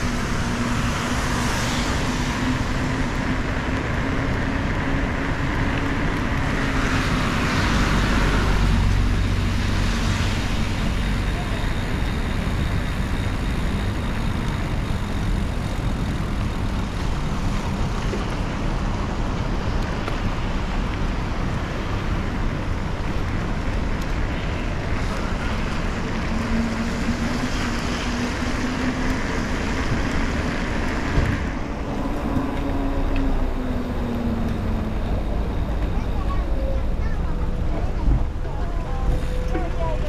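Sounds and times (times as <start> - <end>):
wet-road traffic noise: 0.0 - 40.0
wind rumble on microphone: 0.0 - 40.0.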